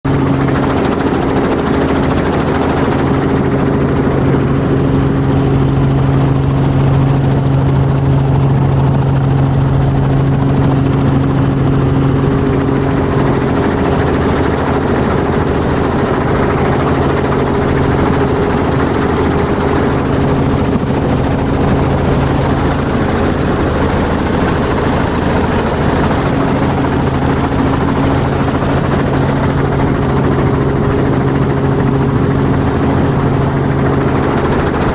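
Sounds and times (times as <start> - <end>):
helicopter rotor and engine noise: 0.1 - 34.9.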